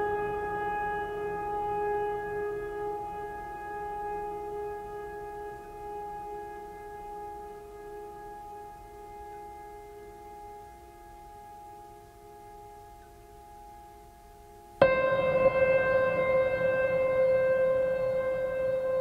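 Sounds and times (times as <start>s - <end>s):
droning held chord: 0.0s - 19.0s.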